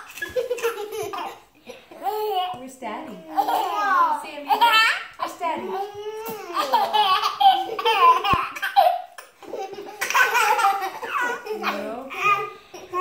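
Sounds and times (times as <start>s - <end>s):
baby giggling and laughing: 0.0s - 2.5s, 3.3s - 13.0s.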